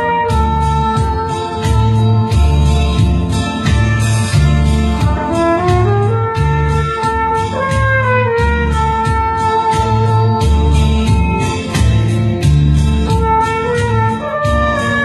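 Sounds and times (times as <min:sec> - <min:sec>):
trumpet melody: 0:00.0 - 0:12.4, 0:13.0 - 0:15.0
backing track bass and drums: 0:00.0 - 0:15.0.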